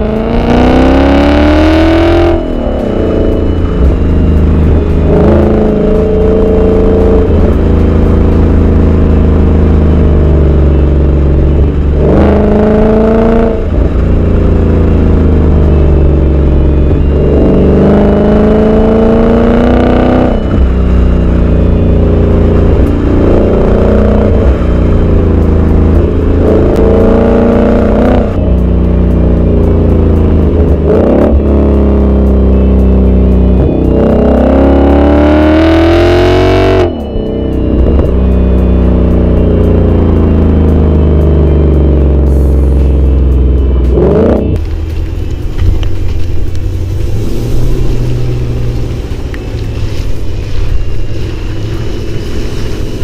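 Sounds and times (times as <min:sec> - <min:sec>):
car engine accelerating: 0:00.0 - 0:53.0
deep exhaust rumble: 0:00.0 - 0:53.0.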